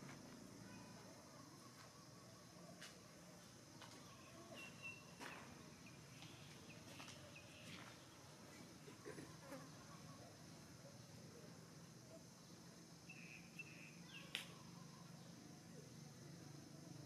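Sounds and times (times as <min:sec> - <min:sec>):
faint insect buzzing: 0:00.0 - 0:17.0.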